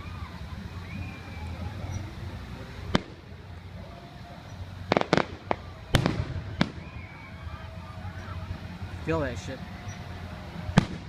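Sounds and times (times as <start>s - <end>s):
fireworks exploding: 0.3s - 11.0s.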